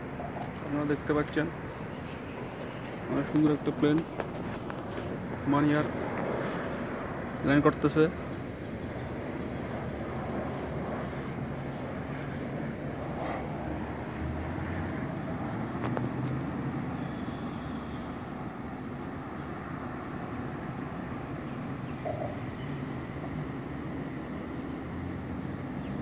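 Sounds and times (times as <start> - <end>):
distant engines: 0.0 - 26.0
traffic: 0.0 - 26.0.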